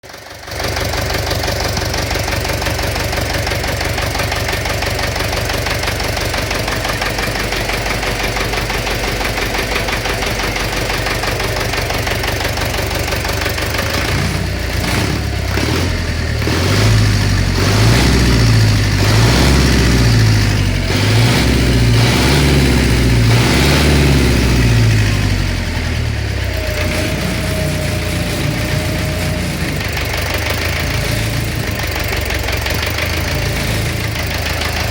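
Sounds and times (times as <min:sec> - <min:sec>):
engine knocking: 0:00.0 - 0:34.9.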